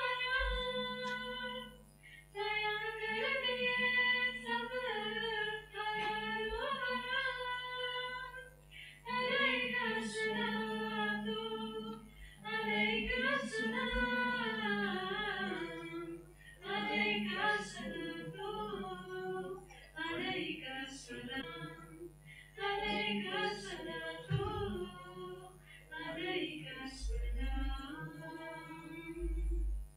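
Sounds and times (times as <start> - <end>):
women singing unaccompanied: 0.0 - 29.9.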